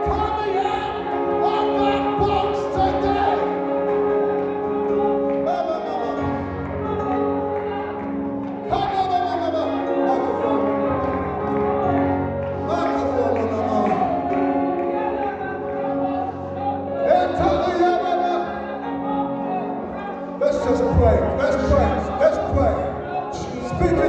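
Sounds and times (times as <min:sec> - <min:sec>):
organ-like keyboard chords: 0:00.0 - 0:24.0
voices singing: 0:00.0 - 0:24.0.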